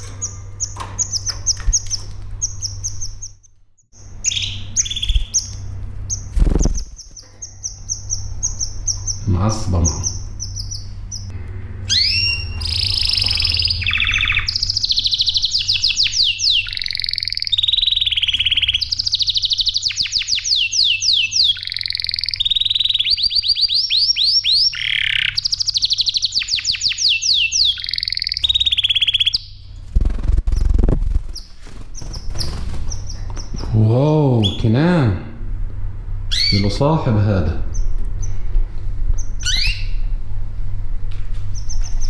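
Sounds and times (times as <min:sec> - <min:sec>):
canary singing trills: 0:00.0 - 0:11.3, 0:11.9 - 0:34.8, 0:36.3 - 0:38.4, 0:39.2 - 0:40.2, 0:41.5 - 0:42.0.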